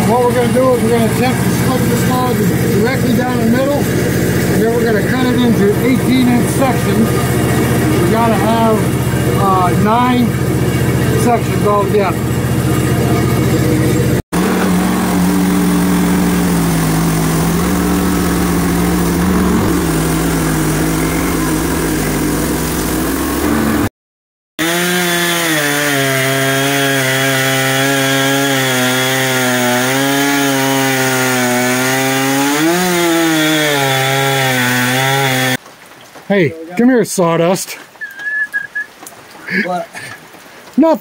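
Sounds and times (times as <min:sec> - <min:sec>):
chainsaw cutting through log: 0:00.0 - 0:23.9, 0:24.6 - 0:35.6.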